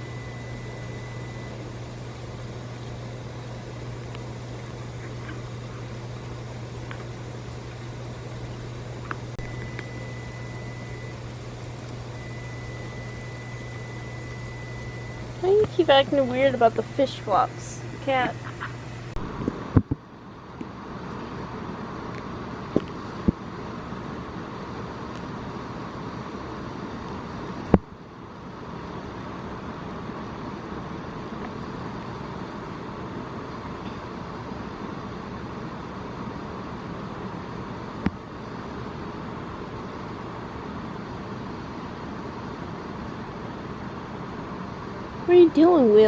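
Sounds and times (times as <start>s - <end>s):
outdoor background noise: 0.0s - 46.0s.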